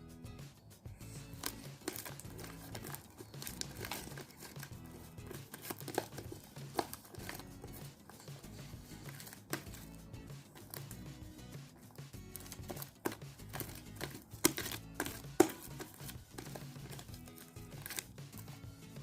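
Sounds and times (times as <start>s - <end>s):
background music: 0.0s - 19.0s
slime clicking and crackling: 1.2s - 11.1s, 12.2s - 18.6s.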